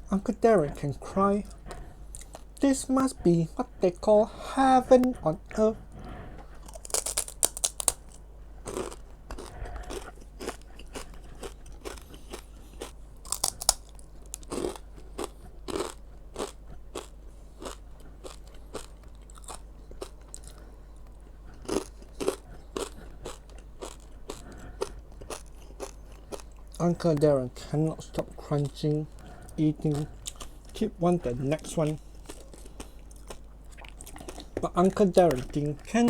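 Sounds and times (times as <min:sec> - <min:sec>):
crunching and chewing crispy food: 0:00.4 - 0:36.0.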